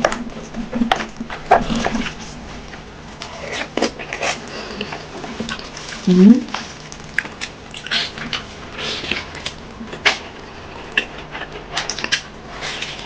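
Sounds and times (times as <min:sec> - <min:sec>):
crunching and chewing food: 0:00.0 - 0:13.0.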